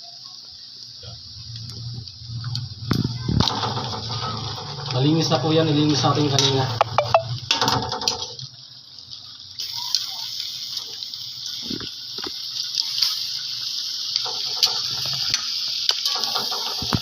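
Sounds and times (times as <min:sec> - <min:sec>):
shrimp sizzling in a pan: 0:00.0 - 0:17.0.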